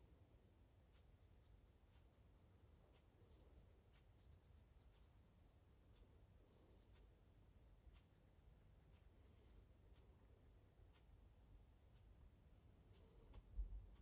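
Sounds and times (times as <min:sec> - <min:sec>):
faint ticks: 0:00.0 - 0:14.0.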